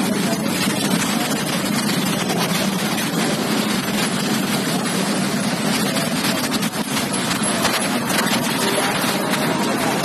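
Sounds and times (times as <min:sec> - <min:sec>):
bus passing slowly: 0:00.0 - 0:10.0
motorcycles passing: 0:00.0 - 0:10.0.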